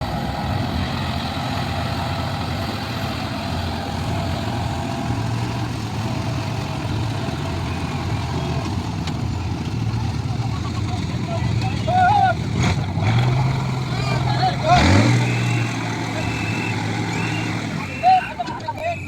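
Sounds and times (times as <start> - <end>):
heavy engine idling: 0.0 - 19.0.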